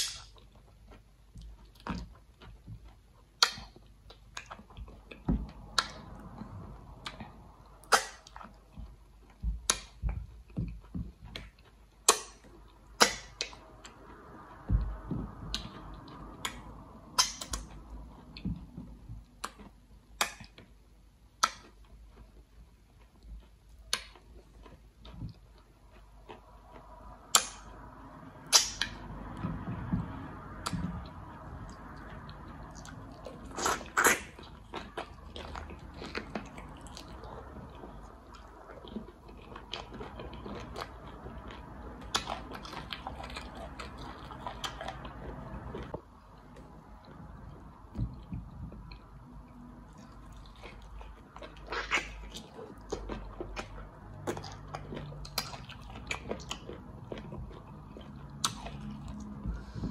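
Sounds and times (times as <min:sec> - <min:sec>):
eating with lip smacks: 0:00.0 - 0:59.9.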